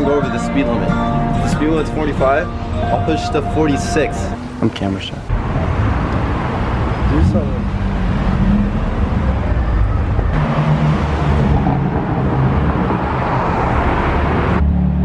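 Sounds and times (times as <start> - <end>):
cars driving past: 1.2 - 15.0.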